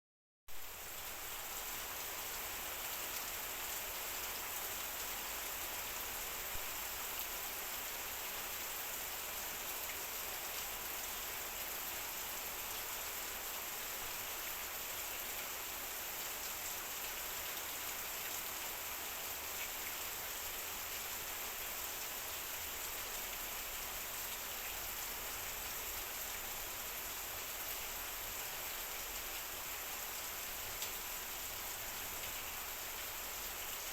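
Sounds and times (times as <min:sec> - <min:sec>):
heavy rain on a metal roof: 0:00.5 - 0:33.9.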